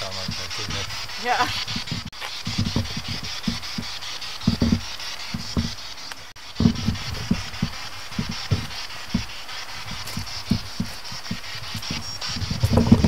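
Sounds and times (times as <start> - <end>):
footsteps soft thumps: 0.0 - 13.0
steady high hiss: 0.0 - 13.0.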